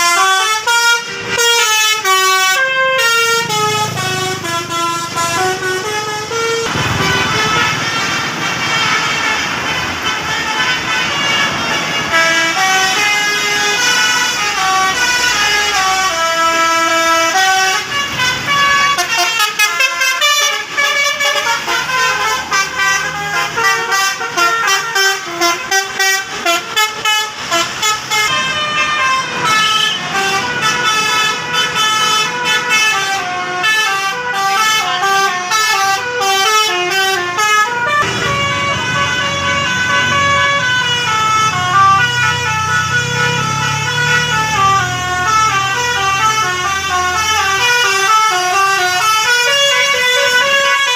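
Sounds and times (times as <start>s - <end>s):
musical bus horns: 0.0s - 50.9s.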